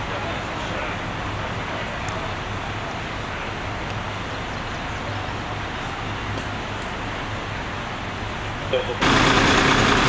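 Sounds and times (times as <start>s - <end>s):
low engine hum: 0.0s - 10.0s
road traffic rumble: 0.0s - 10.0s.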